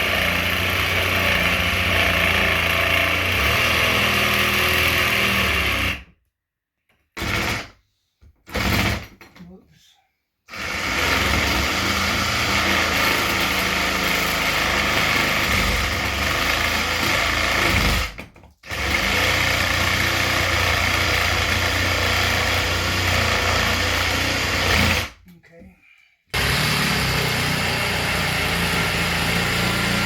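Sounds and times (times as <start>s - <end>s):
power saw cutting wall: 0.0s - 6.1s, 10.5s - 25.2s, 26.3s - 30.0s.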